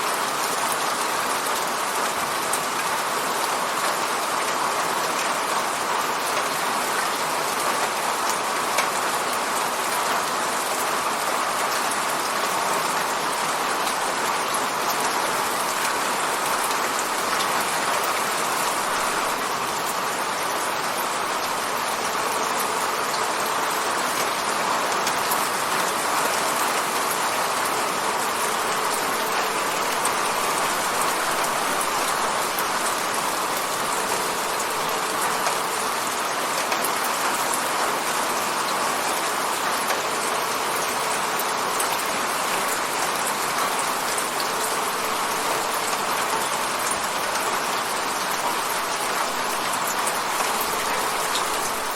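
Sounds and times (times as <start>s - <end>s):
rain pattering on a window: 0.0s - 51.9s.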